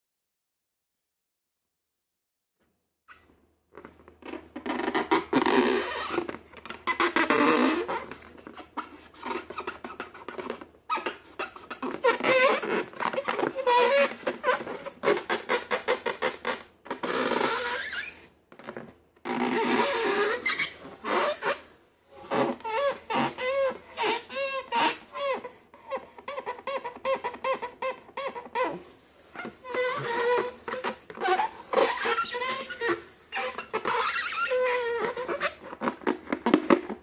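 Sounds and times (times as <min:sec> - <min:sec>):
slime and balloons squeaking: 0:04.2 - 0:21.6, 0:22.2 - 0:37.0.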